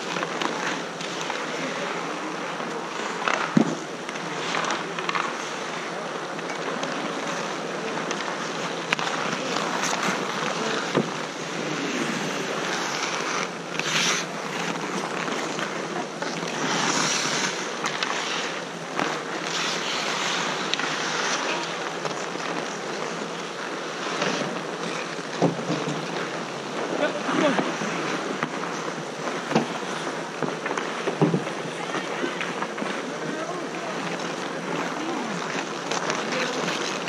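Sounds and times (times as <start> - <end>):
hockey sticks and puck clacking: 0.0 - 37.0
skates scraping on ice: 0.0 - 37.0.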